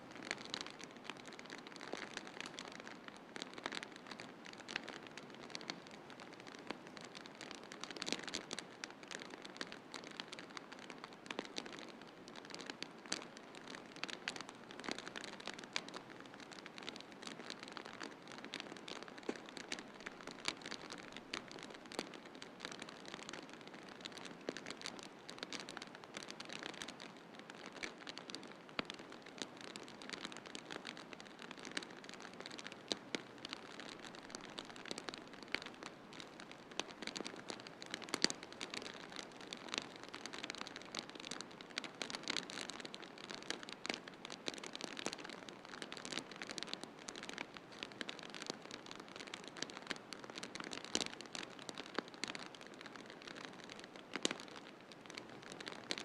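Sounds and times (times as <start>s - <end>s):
wood fire crackling and popping: 0.1s - 56.0s.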